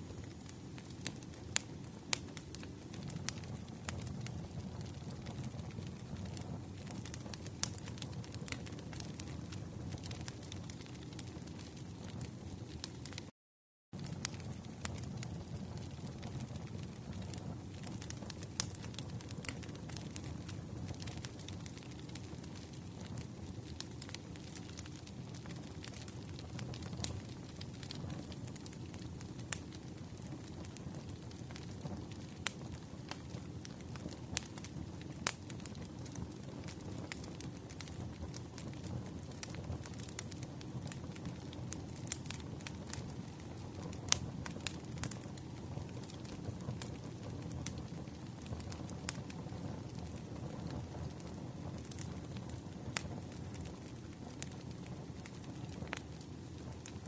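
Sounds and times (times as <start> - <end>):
sharp pops from fire: 0.0 - 13.3, 14.0 - 57.0
wood fire crackling: 0.0 - 13.3, 14.0 - 57.0
burning logs rumbling: 0.1 - 13.2, 14.0 - 57.0.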